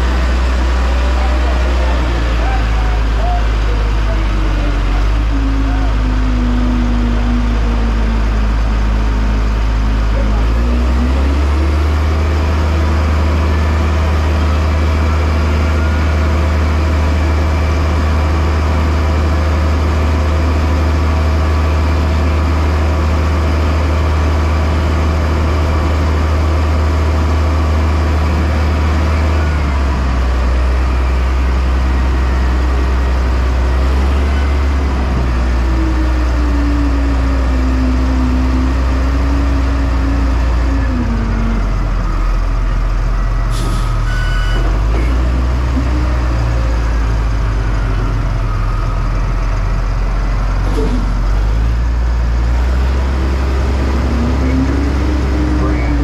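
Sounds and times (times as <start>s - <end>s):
heavy engine droning: 0.0s - 56.0s.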